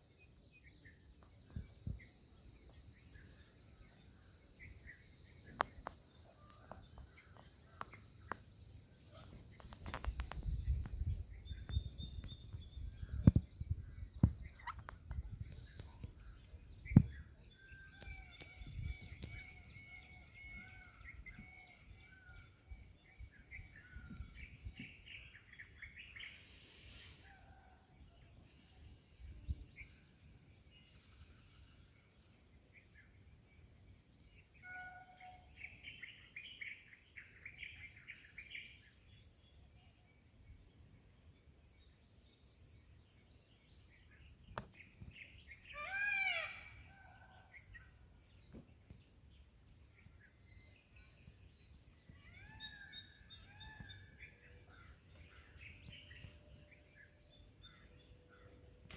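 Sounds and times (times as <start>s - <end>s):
small birds chirping: 0.0s - 34.6s, 35.2s - 58.9s
insect chorus: 0.0s - 58.9s.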